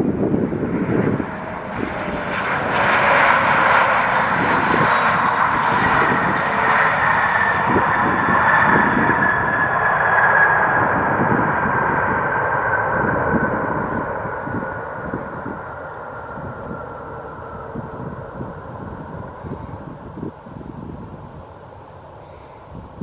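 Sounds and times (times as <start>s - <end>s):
high engine whine falling in pitch: 0.0s - 23.0s
jet engines roaring past: 0.0s - 23.0s
wind gusts on microphone: 0.0s - 23.0s.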